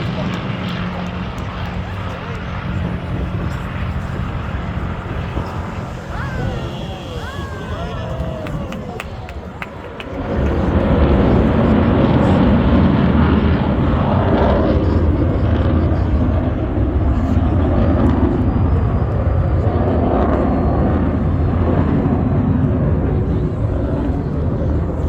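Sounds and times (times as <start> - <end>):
aircraft engine roar: 0.0 - 25.0.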